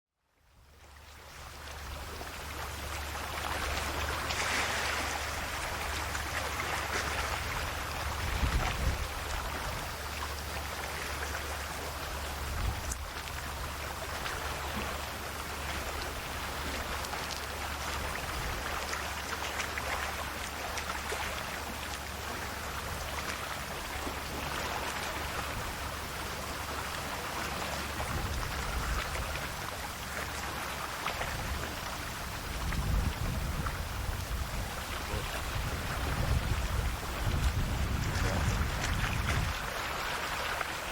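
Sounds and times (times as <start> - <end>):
steady low rumble: 0.6 - 40.6
sea waves lapping on shore: 0.7 - 40.9.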